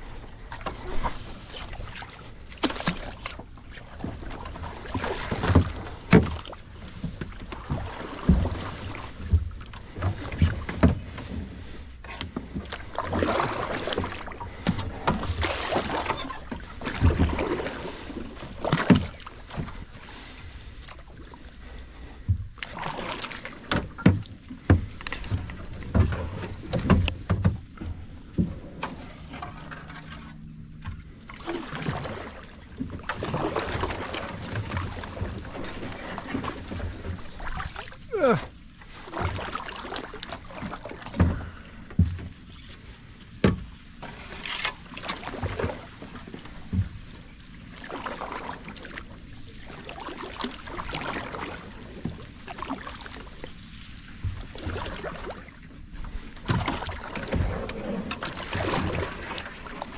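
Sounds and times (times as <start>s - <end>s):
paddle splashing in water: 0.0s - 59.9s.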